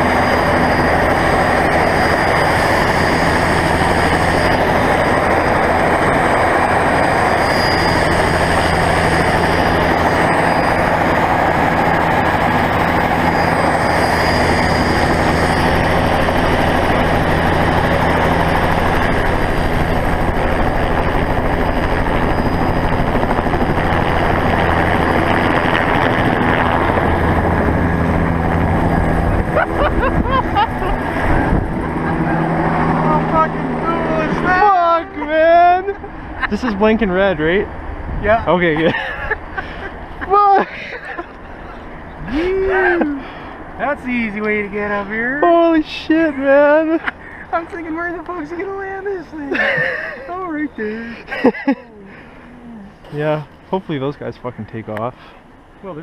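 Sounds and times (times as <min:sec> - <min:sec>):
helicopter engine and rotor: 0:00.0 - 0:56.0.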